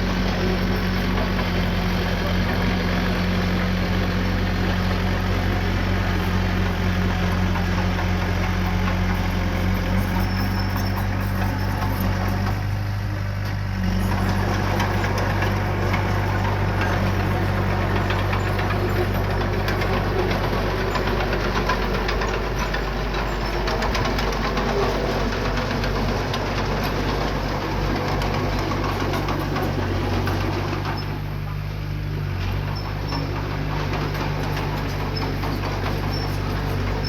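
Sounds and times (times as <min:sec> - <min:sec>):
diesel engine running: 0:00.0 - 0:37.0
clatter and scraping: 0:04.7 - 0:31.3, 0:32.4 - 0:37.0.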